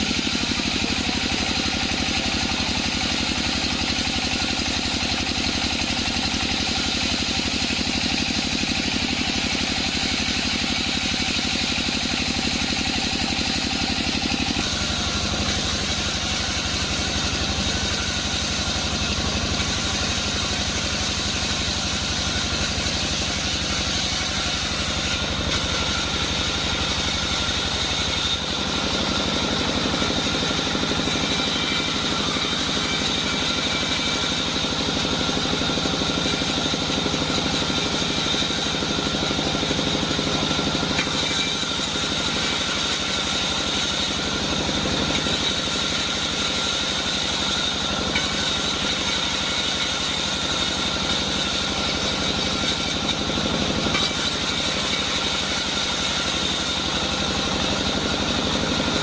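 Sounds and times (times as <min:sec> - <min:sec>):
band saw running: 0:00.0 - 0:59.0
high machine whine: 0:00.0 - 0:59.0.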